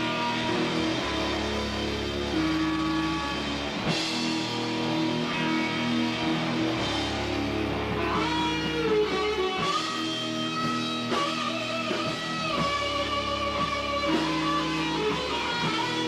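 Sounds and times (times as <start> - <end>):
electric guitar chords ringing: 0.0 - 16.0.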